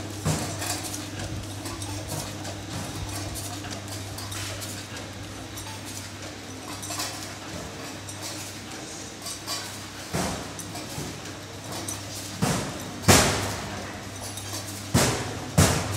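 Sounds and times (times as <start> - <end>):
packing machine humming: 0.0 - 15.9.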